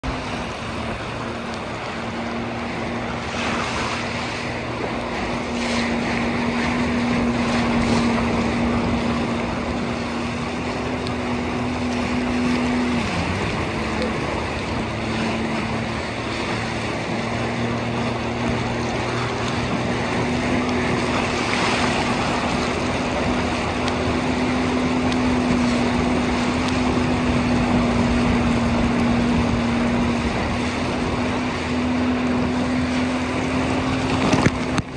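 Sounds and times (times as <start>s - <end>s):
jet ski engine running: 0.0s - 34.9s
rushing water: 0.0s - 34.9s
wind buffeting microphone: 0.0s - 34.9s.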